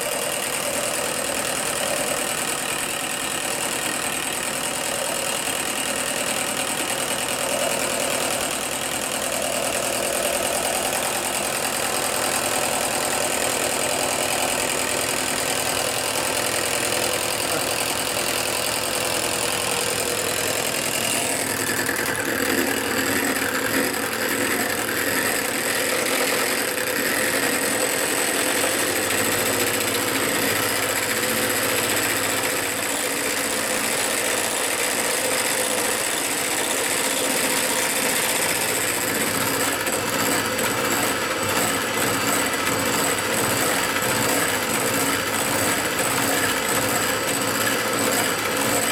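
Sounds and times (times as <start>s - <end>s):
electric hand mixer running: 0.0s - 48.9s.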